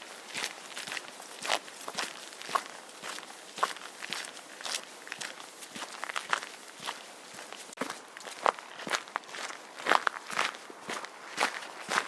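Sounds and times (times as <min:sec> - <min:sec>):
footsteps on gravel: 0:00.0 - 0:12.0.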